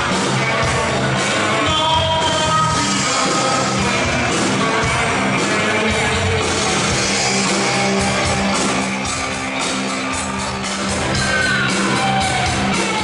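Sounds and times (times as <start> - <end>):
distorted electric guitar: 0.0 - 13.0
drum kit with cymbal hits: 0.0 - 13.0.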